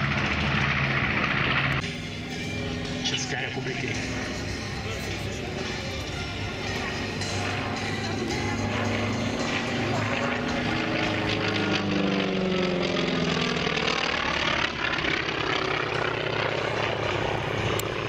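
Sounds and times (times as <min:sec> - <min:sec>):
propeller aircraft engine passing: 0:00.0 - 0:18.0.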